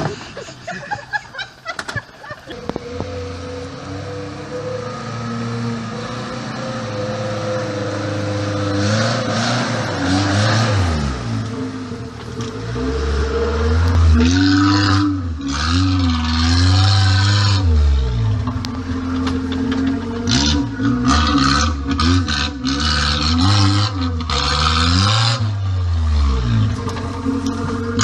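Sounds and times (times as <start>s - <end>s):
engine running and revving: 2.5s - 28.0s.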